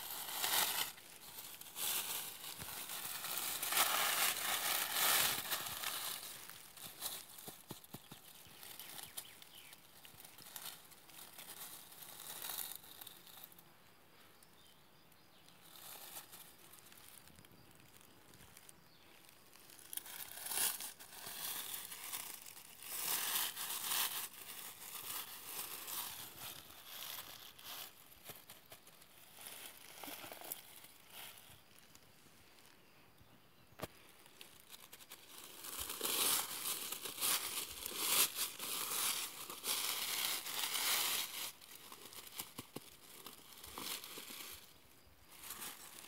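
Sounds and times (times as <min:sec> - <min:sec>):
dry leaves rustling and crackling: 0:00.0 - 0:13.6, 0:15.5 - 0:32.0, 0:33.8 - 0:46.0.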